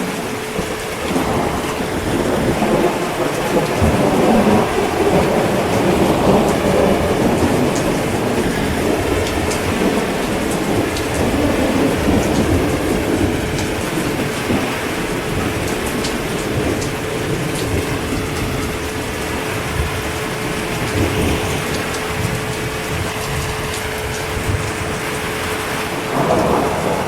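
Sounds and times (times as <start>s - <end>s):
distant thunder rumbling: 0.0s - 27.0s
heavy rain falling: 0.0s - 27.0s.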